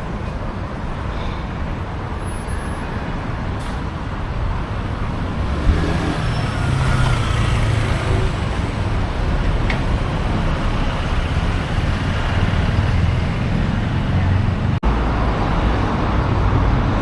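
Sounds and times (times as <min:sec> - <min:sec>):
traffic engines and road noise: 0:00.0 - 0:17.0.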